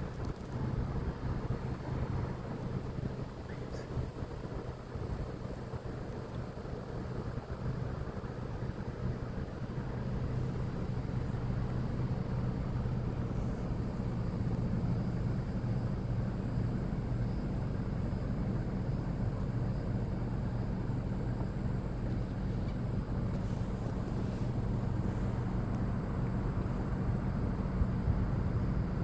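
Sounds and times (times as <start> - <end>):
low engine hum: 0.0 - 29.0.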